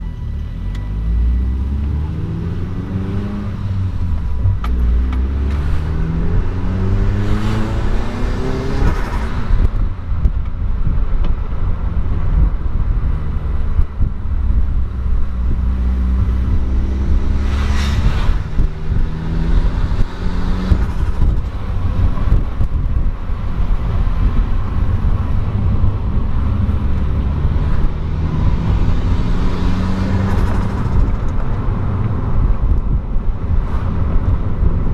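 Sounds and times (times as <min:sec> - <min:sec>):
rush of noise passing: 0:00.0 - 0:34.9
steady low rumble: 0:00.0 - 0:34.9
vehicle engine accelerating: 0:00.0 - 0:34.9.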